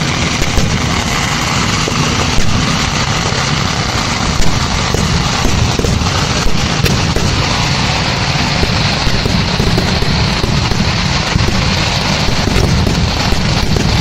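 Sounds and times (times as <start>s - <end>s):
firecrackers crackling and rumbling: 0.0s - 14.0s
sharp firecracker bangs: 0.0s - 14.0s.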